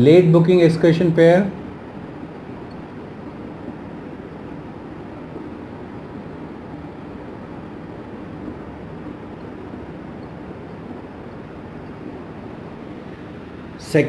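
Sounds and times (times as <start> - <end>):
room hum and hiss: 0.0 - 14.0.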